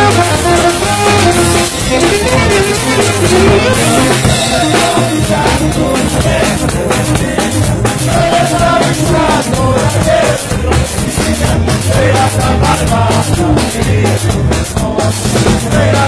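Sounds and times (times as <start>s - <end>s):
live band melody: 0.0s - 16.0s
steady drum beat: 0.0s - 16.0s.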